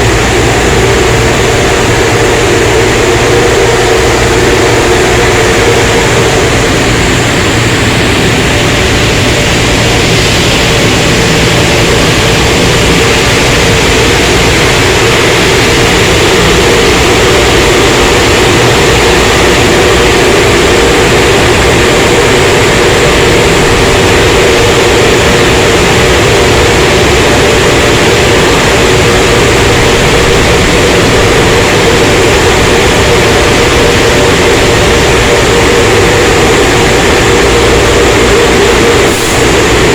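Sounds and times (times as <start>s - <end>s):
car wash rushing noise: 0.0s - 39.9s
constant hum: 0.0s - 39.9s.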